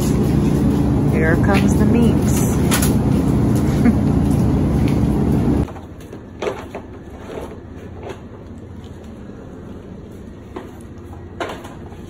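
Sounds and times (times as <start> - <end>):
refrigeration fans rumbling: 0.0 - 12.0.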